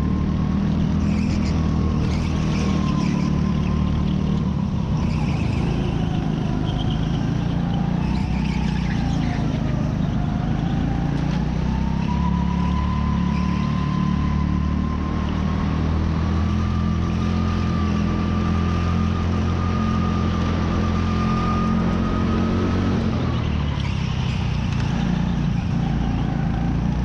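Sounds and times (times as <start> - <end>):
go-kart engine running: 0.0 - 27.0.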